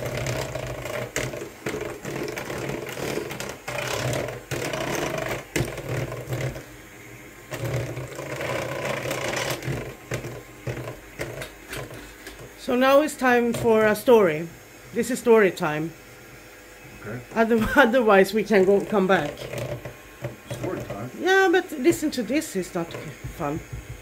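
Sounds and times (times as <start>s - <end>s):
electric mixer whirring: 0.0s - 24.0s.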